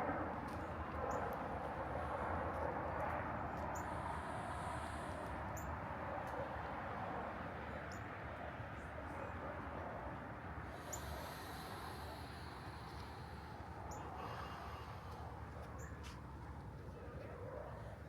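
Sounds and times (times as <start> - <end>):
distant traffic: 0.2 - 18.0.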